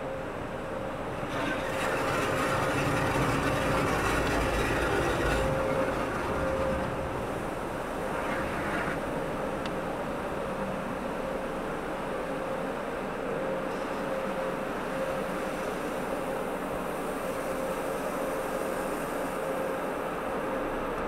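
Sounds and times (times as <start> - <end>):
car wash water spray and machinery: 0.0 - 21.0.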